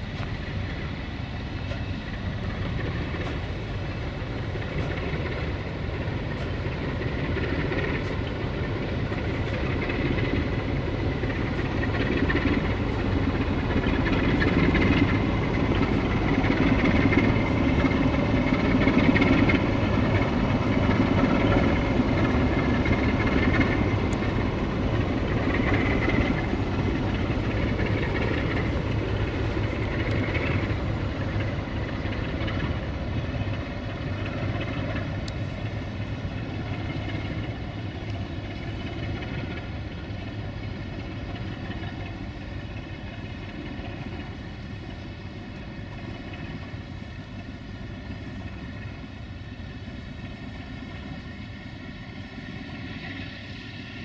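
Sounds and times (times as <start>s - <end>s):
locomotive diesel engine drone: 0.0s - 54.0s.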